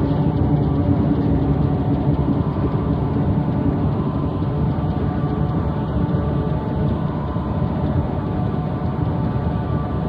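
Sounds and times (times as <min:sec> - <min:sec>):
industrial noise music rumble: 0:00.0 - 0:10.0.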